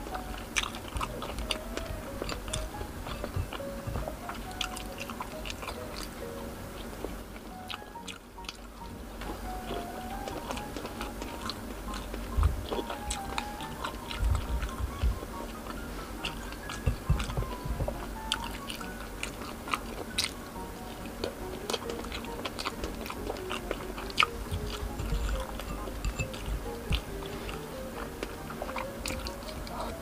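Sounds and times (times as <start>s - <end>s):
soft background music: 0.0s - 30.0s
wet chewing and mouth clicks: 0.0s - 30.0s.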